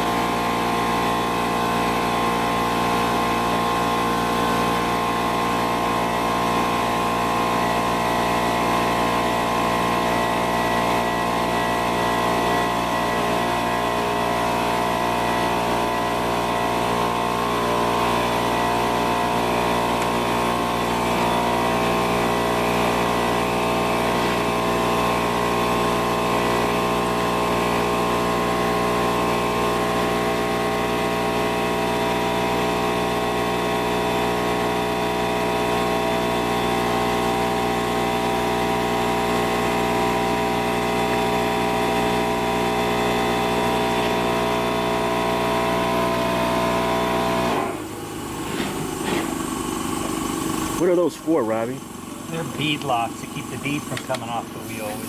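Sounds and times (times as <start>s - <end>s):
machine humming steadily: 0.0s - 55.0s.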